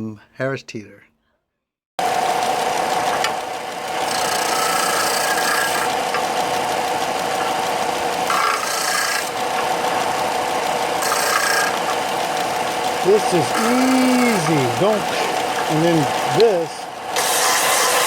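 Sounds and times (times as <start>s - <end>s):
power sander rasping on wood: 2.0s - 18.0s.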